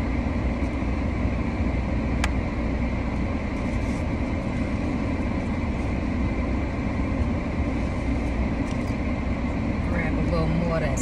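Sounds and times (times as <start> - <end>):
air conditioning blowing: 0.0 - 11.0
car engine idling: 0.0 - 11.0.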